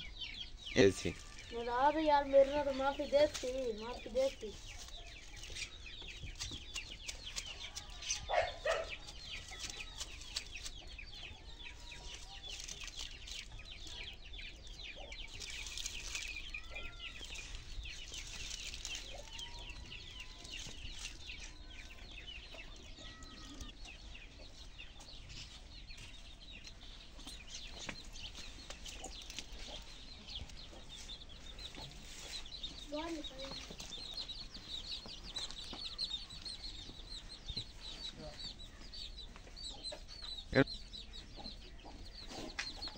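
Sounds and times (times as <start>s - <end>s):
chickens clucking: 0.0s - 42.9s
rapid high bird chirping: 0.0s - 42.9s.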